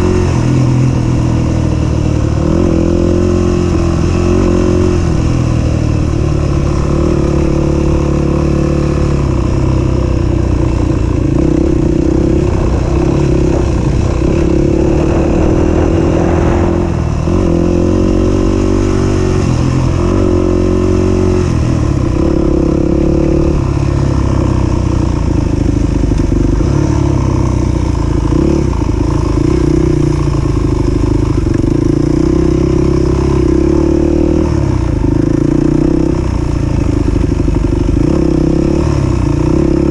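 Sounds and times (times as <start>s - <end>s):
dirt bike engine revving: 1.8s - 39.9s.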